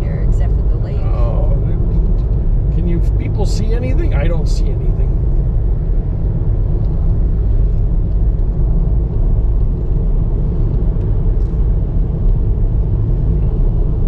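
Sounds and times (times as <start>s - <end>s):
car driving on road: 0.0s - 14.0s.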